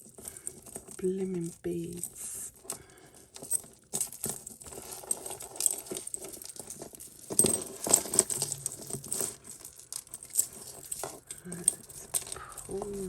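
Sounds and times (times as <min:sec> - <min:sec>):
beads and chains clicking and rattling: 0:00.0 - 0:13.0.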